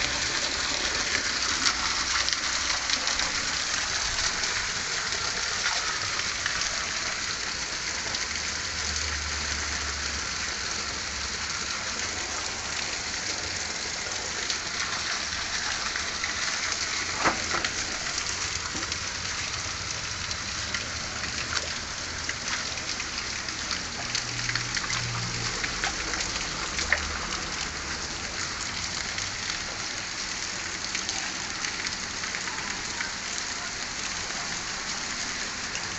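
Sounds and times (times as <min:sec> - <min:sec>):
rain falling: 0:00.0 - 0:35.9.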